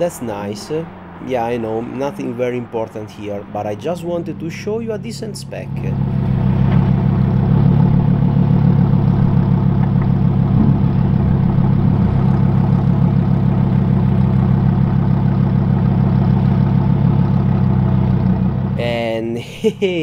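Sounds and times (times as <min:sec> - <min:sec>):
sports car engine idling: 0:00.3 - 0:20.0.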